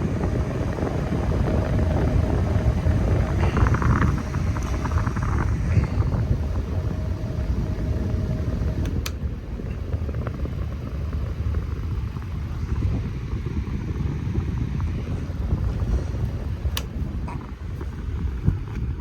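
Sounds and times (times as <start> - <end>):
faint hum: 0.0 - 19.0
fans blowing air: 0.0 - 19.0
wind buffeting microphone: 0.0 - 19.0.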